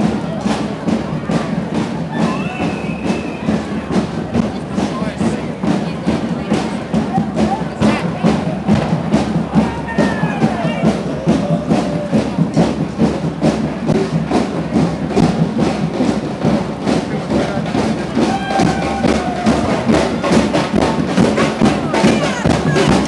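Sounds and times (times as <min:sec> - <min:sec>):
crowd voices: 0:00.0 - 0:23.0
procession drums beating: 0:00.0 - 0:23.0.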